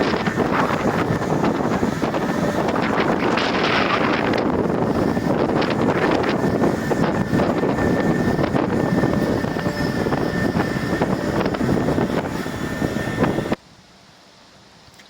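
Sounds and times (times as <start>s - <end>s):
paving machine running: 0.0s - 13.6s
wind on microphone: 0.0s - 13.6s.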